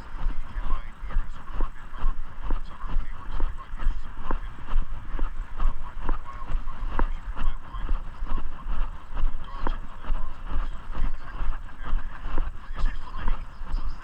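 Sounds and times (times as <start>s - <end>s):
footsteps walking: 0.0s - 14.0s
low rumble: 0.0s - 14.0s.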